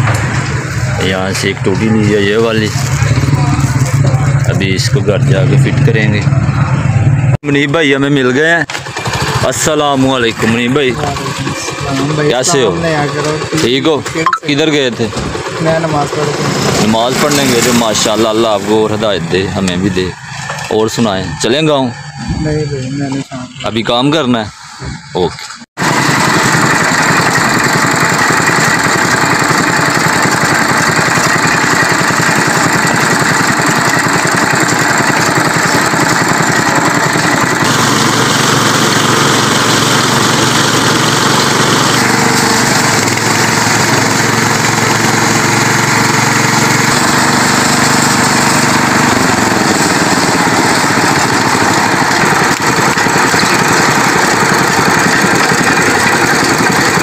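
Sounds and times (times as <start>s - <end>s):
engine-driven juice crusher running: 0.0s - 57.0s.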